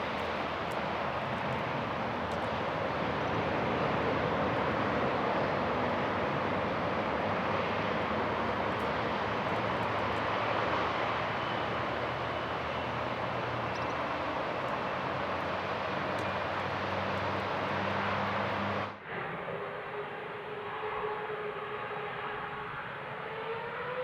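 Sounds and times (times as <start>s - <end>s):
jet airliner engines running: 0.0s - 24.0s.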